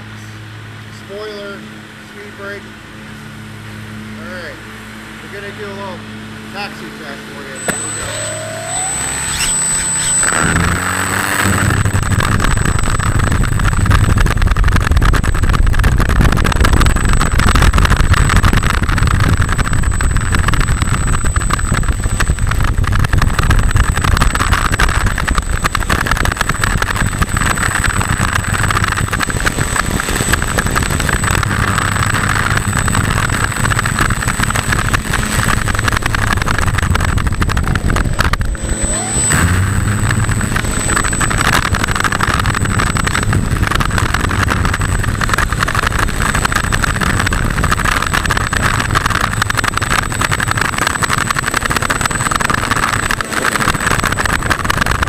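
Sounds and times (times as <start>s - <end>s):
electric motor and propeller running: 3.2s - 55.0s
thin high whine: 6.6s - 55.0s.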